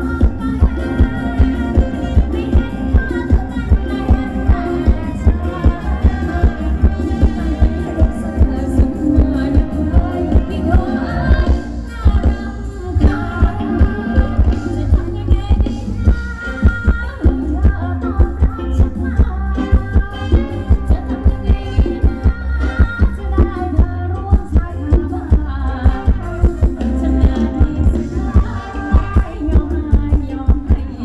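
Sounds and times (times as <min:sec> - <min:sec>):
heavy drum beat: 0:00.0 - 0:31.0
live band music: 0:00.0 - 0:31.0
person singing: 0:00.0 - 0:31.0.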